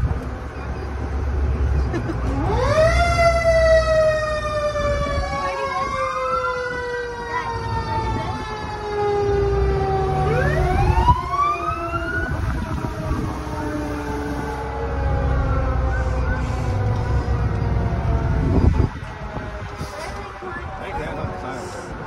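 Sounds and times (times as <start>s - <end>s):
truck engine rumble: 0.0s - 22.0s
fire truck siren wailing: 2.0s - 22.0s
second siren sweep: 2.3s - 22.0s.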